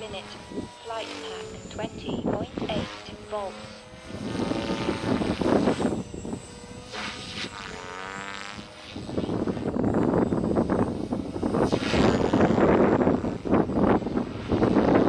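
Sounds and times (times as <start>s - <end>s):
helicopter rotor blades whooshing: 0.0s - 15.0s
motor and gears whining: 0.0s - 15.0s.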